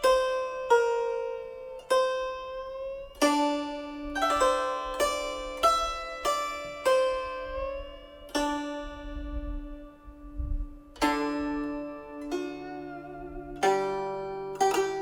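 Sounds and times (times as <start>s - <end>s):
plucked zither notes: 0.0s - 15.0s.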